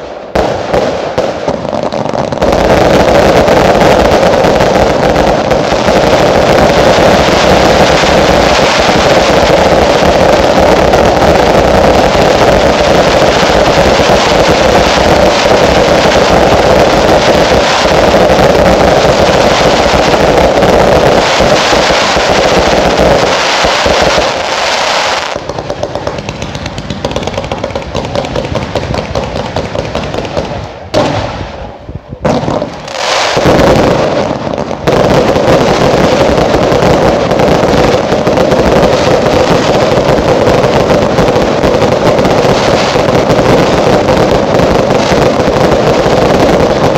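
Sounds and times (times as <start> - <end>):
fireworks barrage: 0.0 - 46.9.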